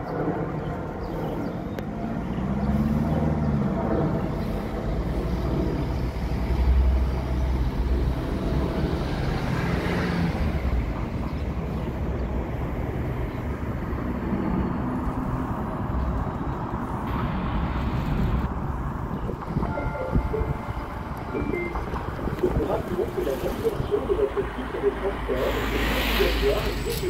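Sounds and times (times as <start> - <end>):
low rumble of vehicles: 0.0 - 27.0.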